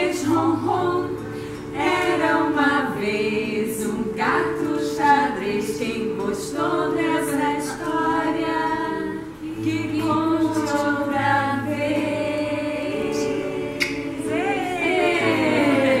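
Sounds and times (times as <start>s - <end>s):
acoustic guitar: 0.0s - 16.0s
women singing together: 0.0s - 16.0s.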